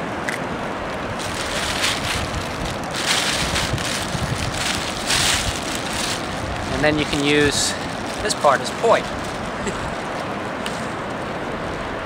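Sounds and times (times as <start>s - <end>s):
ocean surf: 0.0s - 12.0s
wind buffeting microphone: 0.7s - 12.0s
plastic bag rustling: 1.1s - 11.4s.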